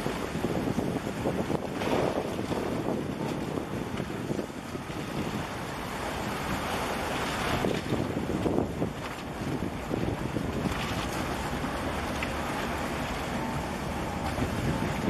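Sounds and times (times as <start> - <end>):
water washing against concrete: 0.0 - 15.0
wind buffeting microphone: 0.0 - 15.0.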